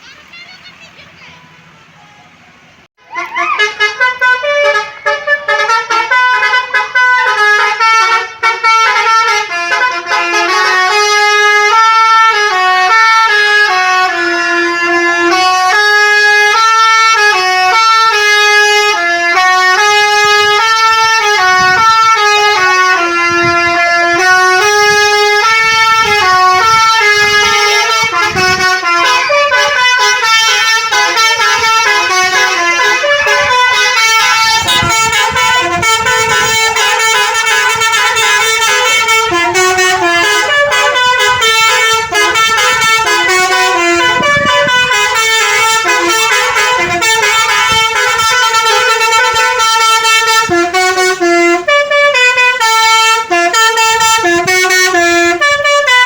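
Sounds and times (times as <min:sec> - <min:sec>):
musical bus horn melody: 0:00.3 - 0:56.0.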